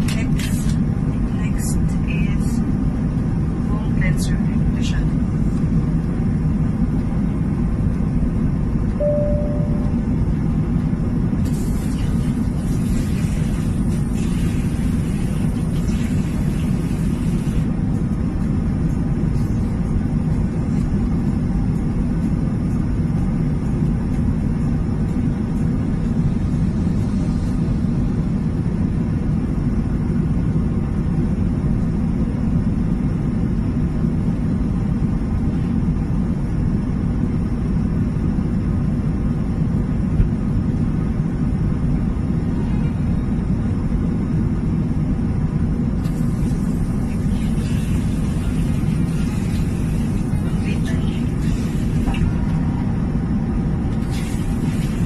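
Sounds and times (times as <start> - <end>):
airliner cabin engine drone: 0.0 - 55.0.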